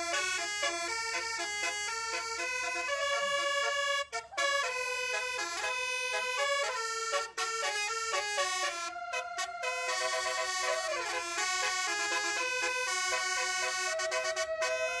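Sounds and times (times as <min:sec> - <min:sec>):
bus air horns playing a tune: 0:00.0 - 0:15.0.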